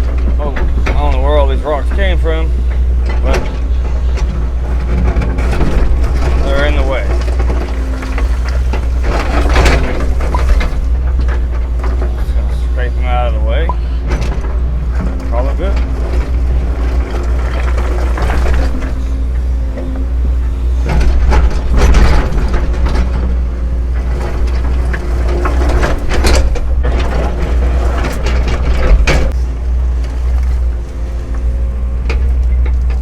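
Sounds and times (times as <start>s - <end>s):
bucket scraping against rocks: 0.0s - 33.0s
excavator diesel engine running: 0.0s - 33.0s.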